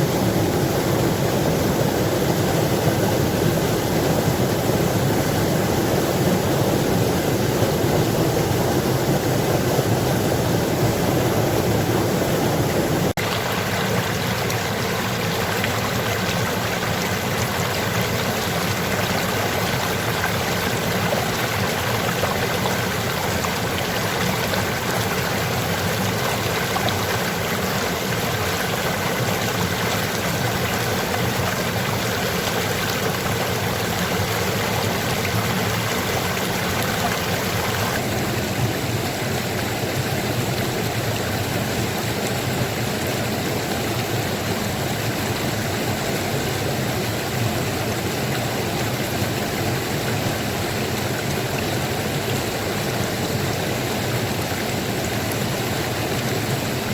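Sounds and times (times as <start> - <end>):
water rushing in a stream: 0.0 - 56.9.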